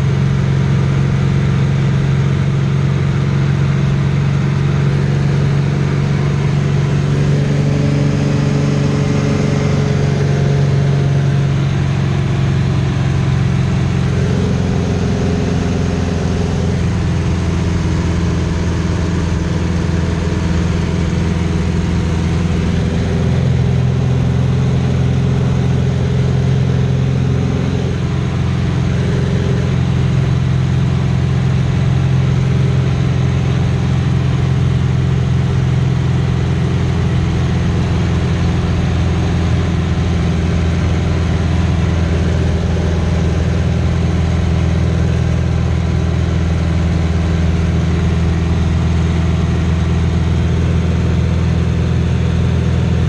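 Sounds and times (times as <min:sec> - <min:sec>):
propeller plane engine droning: 0:00.0 - 0:53.0.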